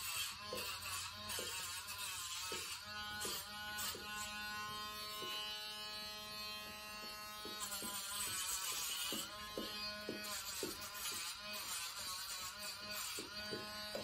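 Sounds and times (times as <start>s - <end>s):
rotary nail grinder whine: 0.0s - 14.0s.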